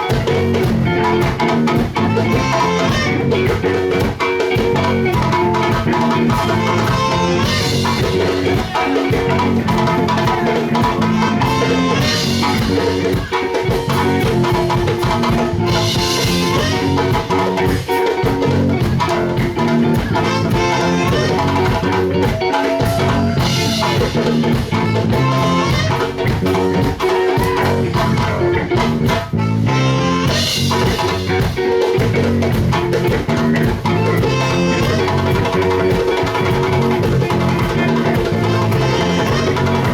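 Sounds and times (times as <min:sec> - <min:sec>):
live band with drums and guitar: 0:00.0 - 0:39.9.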